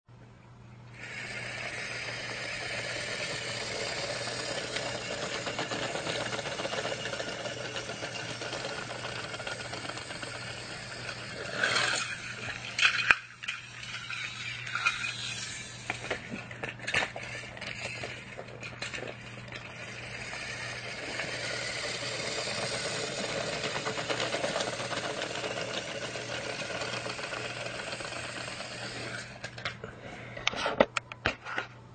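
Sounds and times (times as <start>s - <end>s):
toy train motors whirring: 1.0s - 30.9s.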